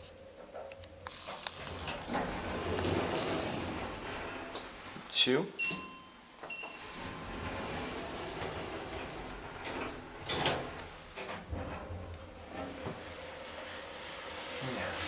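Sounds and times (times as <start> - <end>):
elevator low hum: 0.0 - 15.0
elevator doors sliding: 0.4 - 15.0.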